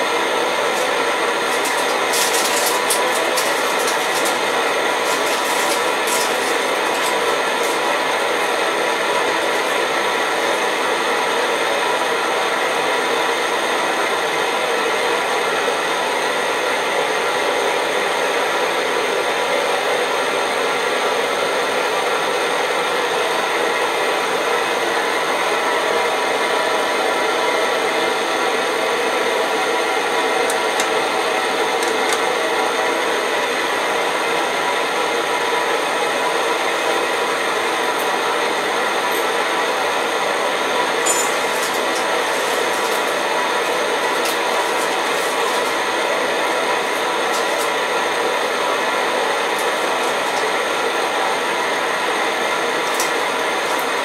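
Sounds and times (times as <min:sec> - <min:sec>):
pressure stove burner roaring: 0:00.0 - 0:54.0.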